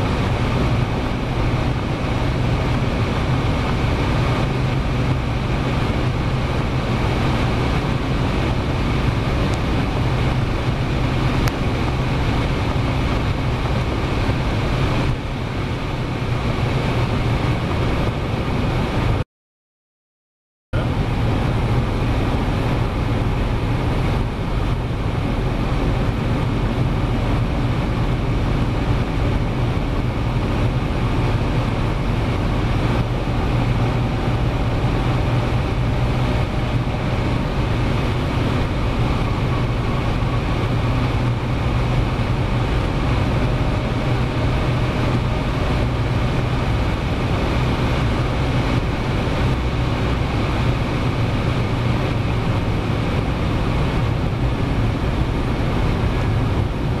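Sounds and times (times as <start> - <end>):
car engine running: 0.0 - 19.2, 20.8 - 57.0
wind and road noise roar: 0.0 - 19.2, 20.8 - 57.0.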